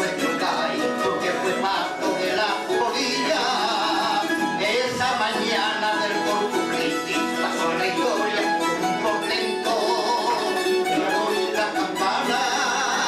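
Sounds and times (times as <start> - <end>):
plucked string trio playing: 0.0 - 13.0.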